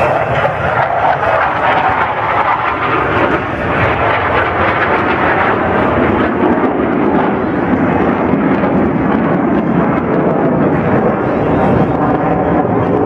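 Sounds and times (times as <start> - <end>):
jet roar: 0.0 - 13.0.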